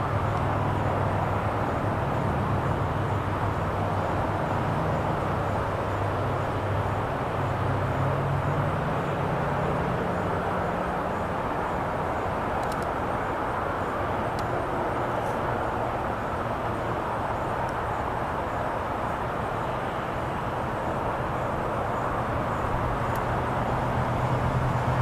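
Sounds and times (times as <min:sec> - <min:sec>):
distant traffic: 0:00.0 - 0:25.0
low engine hum: 0:00.0 - 0:25.0.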